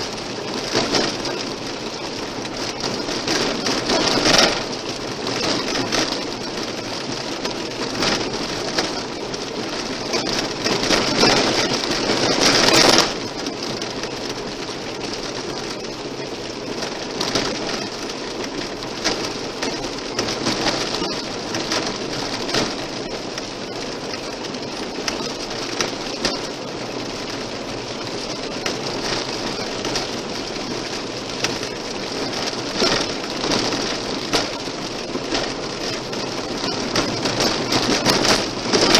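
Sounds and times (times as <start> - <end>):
car tyres on gravel: 0.0 - 38.9.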